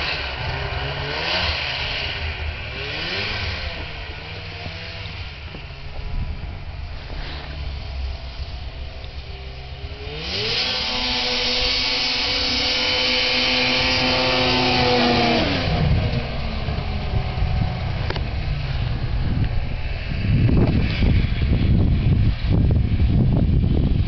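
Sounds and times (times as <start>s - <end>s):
snowmobile engine whining: 0.0s - 24.0s.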